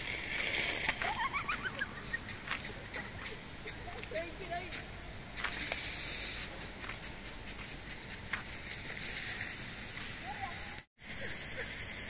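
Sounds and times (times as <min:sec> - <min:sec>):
water spraying from sprinklers: 0:00.0 - 0:12.0.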